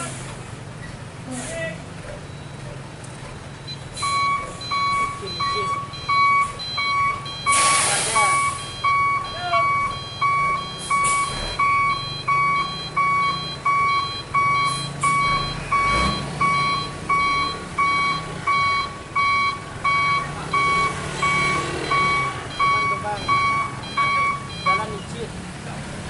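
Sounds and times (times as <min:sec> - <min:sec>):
diesel engine running: 0:00.0 - 0:26.0
truck reverse beeper: 0:03.6 - 0:25.2.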